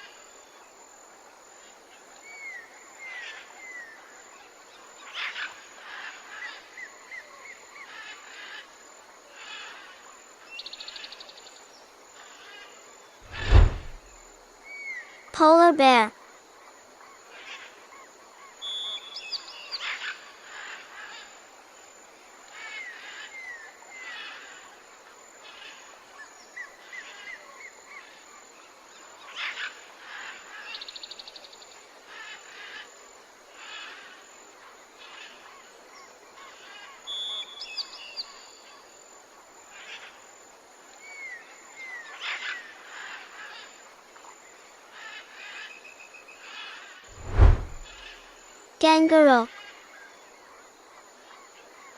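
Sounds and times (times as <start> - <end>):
steady outdoor hiss: 0.0 - 51.9.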